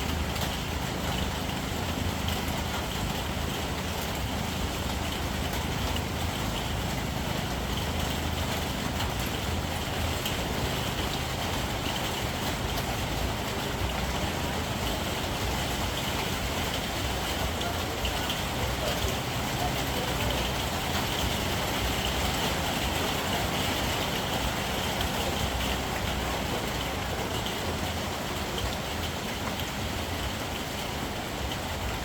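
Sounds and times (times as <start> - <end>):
rain hissing: 0.0 - 32.0
vehicle engine rumble: 0.0 - 32.0.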